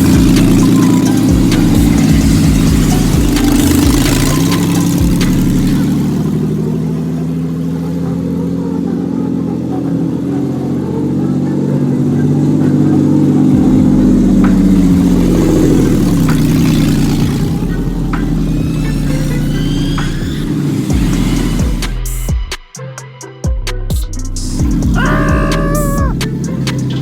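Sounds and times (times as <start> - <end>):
truck engine running: 0.0 - 22.4, 24.4 - 27.0.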